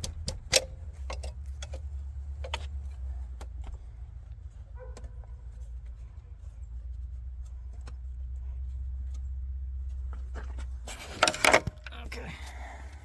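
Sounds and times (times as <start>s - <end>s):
steady low rumble: 0.0s - 11.1s, 11.7s - 13.0s.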